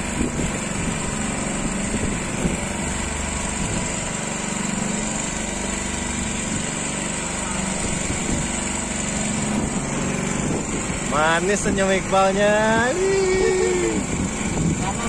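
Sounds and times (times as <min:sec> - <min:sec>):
boat engine running steadily: 0:00.0 - 0:15.0.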